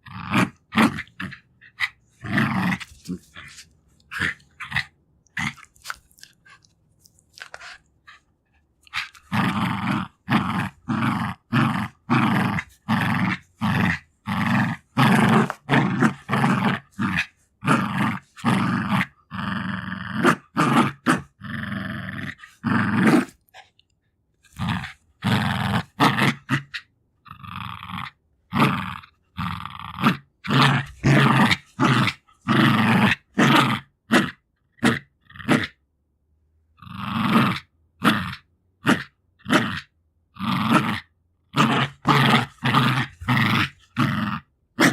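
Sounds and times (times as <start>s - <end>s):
dog growling: 0.0s - 6.7s, 8.8s - 23.7s, 24.5s - 35.8s, 36.8s - 44.9s.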